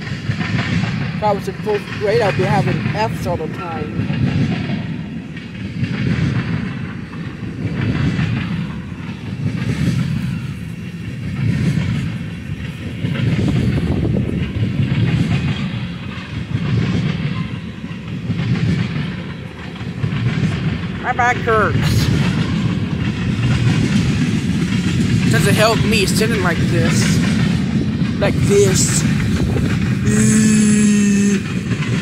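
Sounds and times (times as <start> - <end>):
freight train wheels clattering: 0.0 - 32.0.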